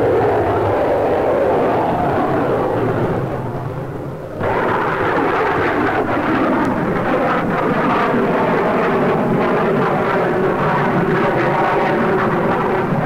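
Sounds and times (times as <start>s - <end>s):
jet roar flying past: 0.0s - 13.0s.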